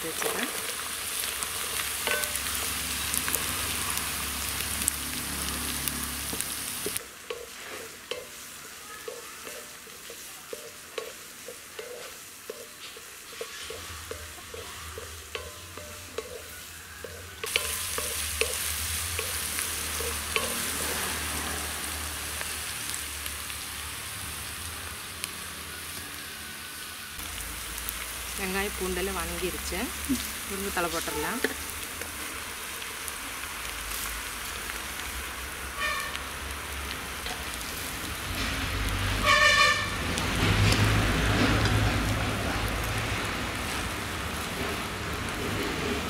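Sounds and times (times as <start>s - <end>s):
shallots sizzling in hot oil: 0.0s - 46.0s.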